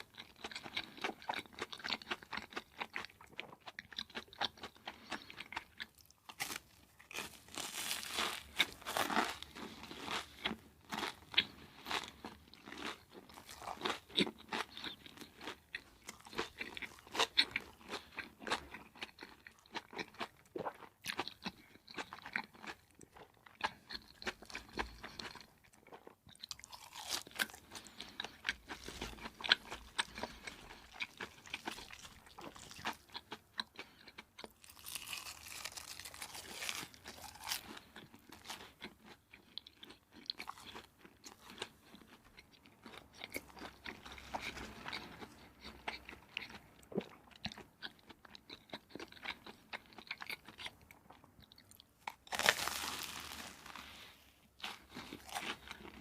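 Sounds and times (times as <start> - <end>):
person chewing crispy food: 0.0 - 56.0.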